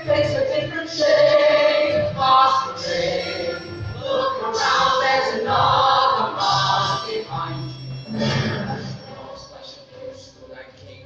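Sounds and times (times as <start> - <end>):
mixed choir singing: 0.0 - 10.7
musical accompaniment: 0.0 - 11.0.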